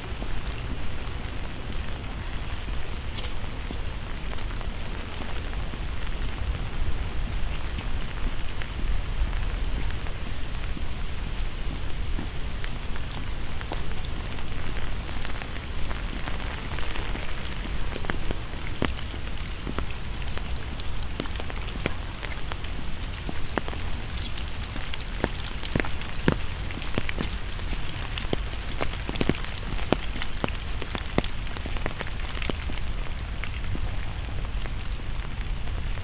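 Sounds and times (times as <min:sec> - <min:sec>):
raindrops ticking: 0:00.0 - 0:36.0.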